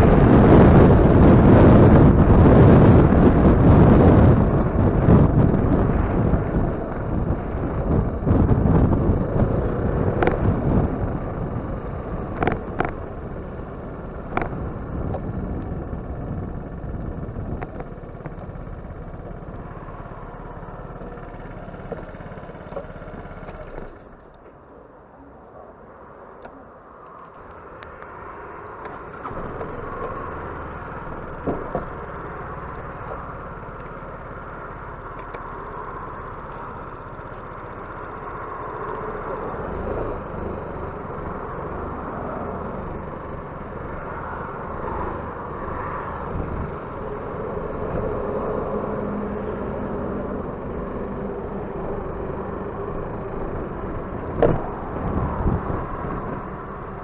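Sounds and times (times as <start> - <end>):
scooter engine running: 0.0 - 24.8, 27.4 - 57.0
road and wind noise: 0.0 - 57.0.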